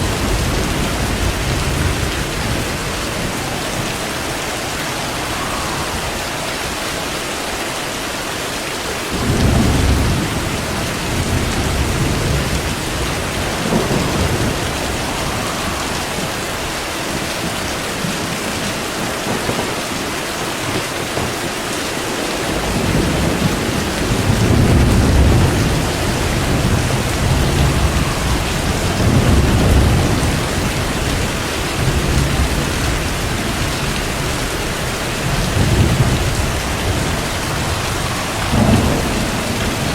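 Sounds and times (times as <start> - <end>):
rolling thunder: 0.0 - 7.6, 9.1 - 39.9
heavy rain: 0.0 - 39.9.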